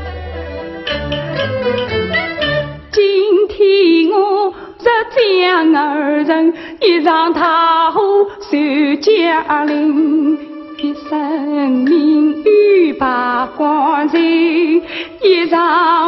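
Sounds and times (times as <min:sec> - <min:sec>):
woman singing opera: 0:02.9 - 0:16.0.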